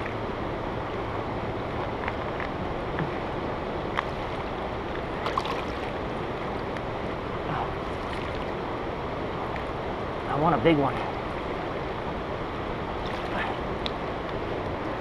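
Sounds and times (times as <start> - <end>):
stream water over rocks: 0.0 - 15.0.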